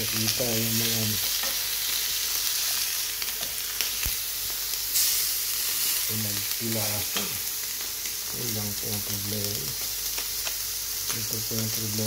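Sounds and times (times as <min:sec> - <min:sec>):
chicken sizzling in grill pan: 0:00.0 - 0:12.0.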